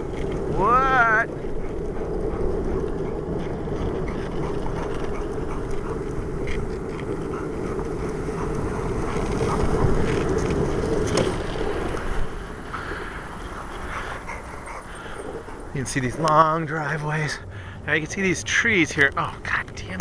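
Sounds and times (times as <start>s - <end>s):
wheels rumbling on pavement: 0.0s - 20.0s.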